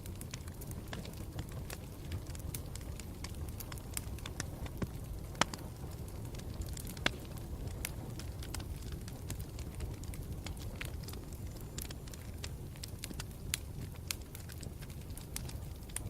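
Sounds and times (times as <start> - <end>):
campfire crackling: 0.0 - 16.0
fire pops: 0.0 - 16.0.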